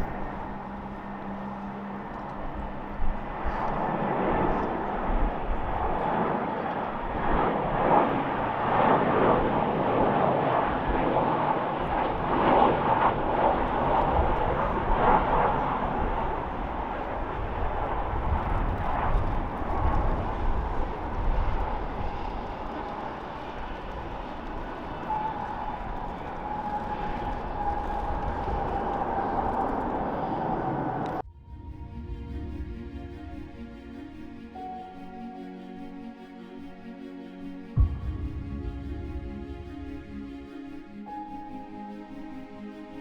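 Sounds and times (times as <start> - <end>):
jet airliner passing: 0.0 - 43.0.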